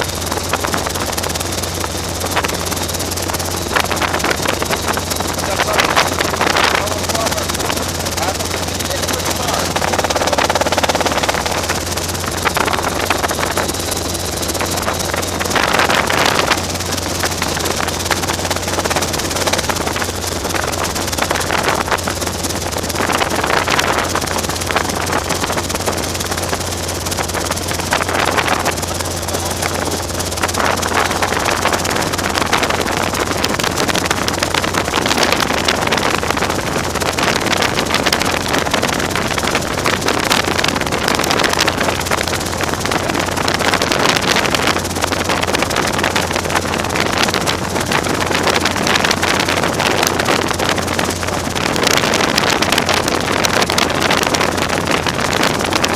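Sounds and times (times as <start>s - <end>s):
helicopter engine and rotor drone: 0.0s - 55.9s.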